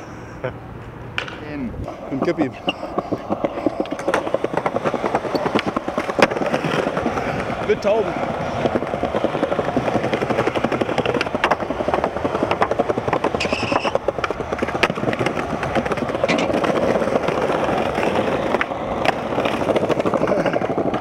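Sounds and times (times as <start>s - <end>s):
skateboard wheels rolling on stone: 0.7s - 21.0s
skateboard clacks: 1.1s - 21.0s.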